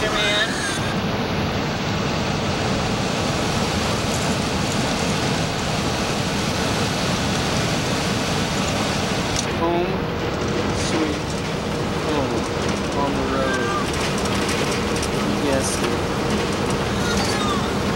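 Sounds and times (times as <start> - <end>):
vehicle road and engine noise: 0.0 - 17.9.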